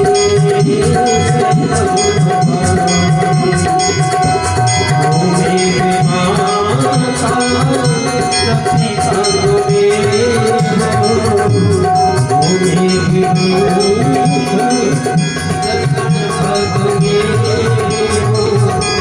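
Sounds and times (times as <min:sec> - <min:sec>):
steady drum rhythm: 0:00.0 - 0:19.0
sustained held tones: 0:00.0 - 0:19.0.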